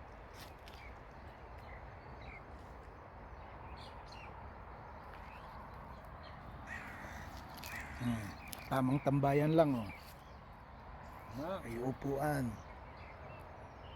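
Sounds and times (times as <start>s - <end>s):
outdoor background noise: 0.0s - 13.9s.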